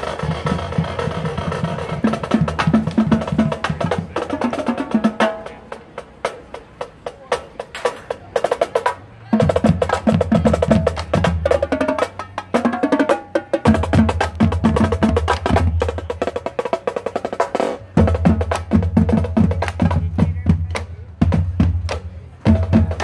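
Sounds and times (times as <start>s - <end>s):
snare drums: 0.0s - 23.0s
tenor drums: 0.0s - 23.0s.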